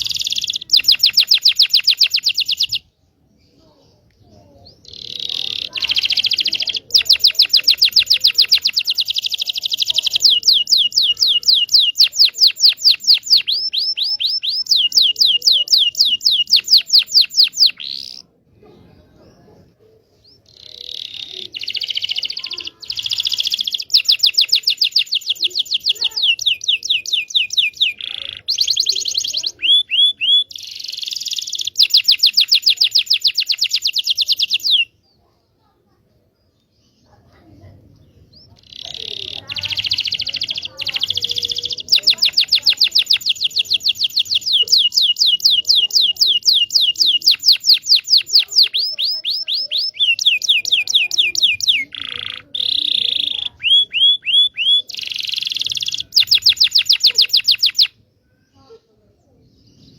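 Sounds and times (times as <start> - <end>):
canary singing trills: 0.0 - 35.6, 36.3 - 59.9.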